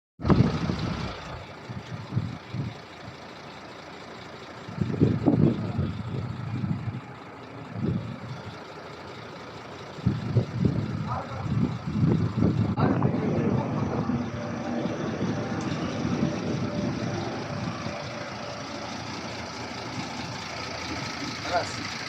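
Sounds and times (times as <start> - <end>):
engine running with rumbling surges: 0.2 - 22.0.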